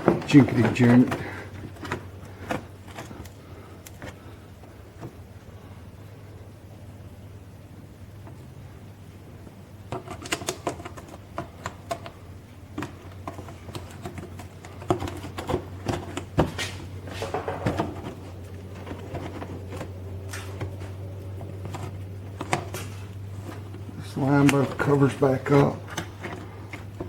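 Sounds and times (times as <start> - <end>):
plastic covers clicking and rattling: 0.0 - 5.3, 9.8 - 27.0
steady low hum: 0.0 - 27.0.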